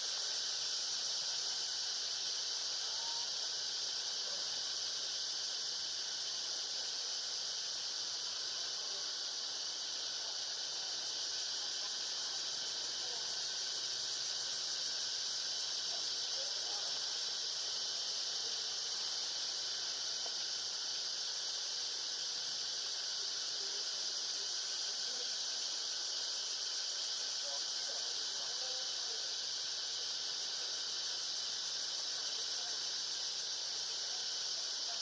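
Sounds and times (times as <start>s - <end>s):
insect chorus droning: 0.0s - 35.0s.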